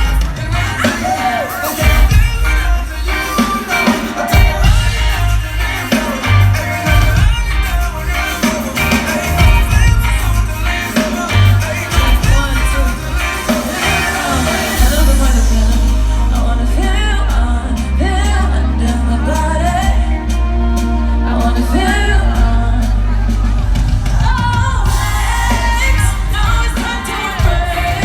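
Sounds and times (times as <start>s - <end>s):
amplified pop music: 0.0s - 28.0s
woman singing: 0.0s - 28.0s.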